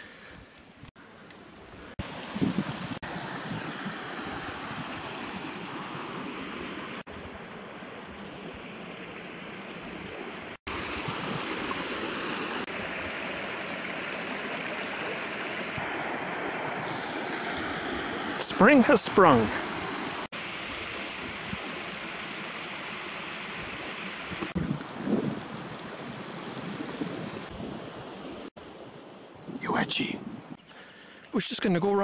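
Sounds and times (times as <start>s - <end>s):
creek running over rocks: 0.0s - 32.0s.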